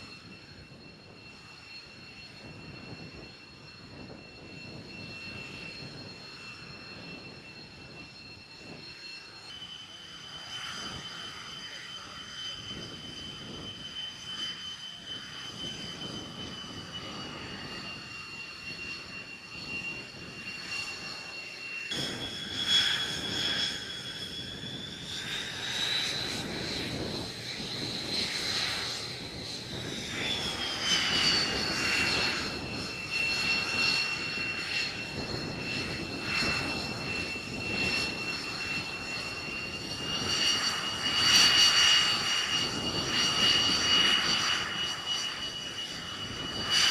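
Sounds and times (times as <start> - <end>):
jet engine turbine whine: 0.0 - 46.9.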